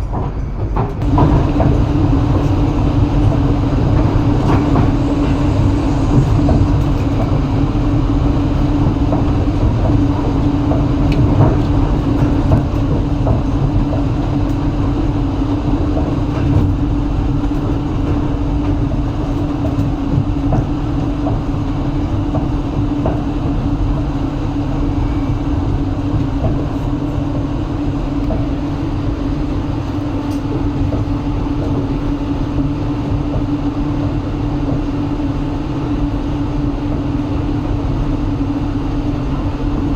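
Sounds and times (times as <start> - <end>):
train wheels rumbling on rails: 0.0 - 39.9
steady hum: 1.0 - 39.9.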